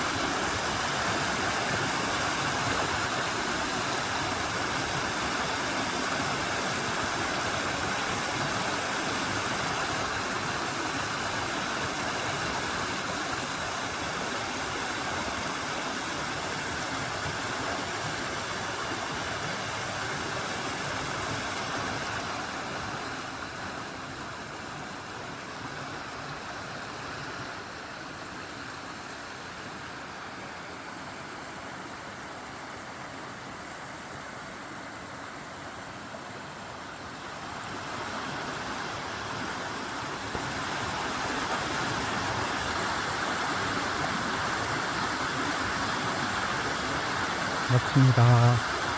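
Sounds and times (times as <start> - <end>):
stream rushing water: 0.0 - 48.9.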